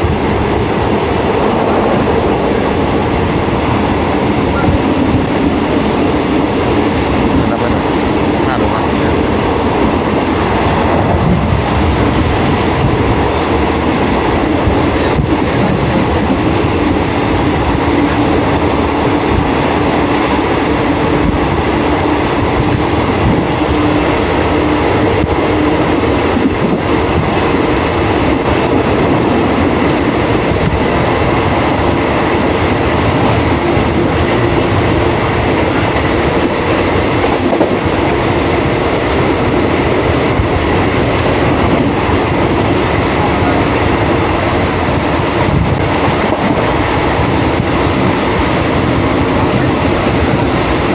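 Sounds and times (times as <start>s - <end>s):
train wheels on rail: 0.0s - 50.9s.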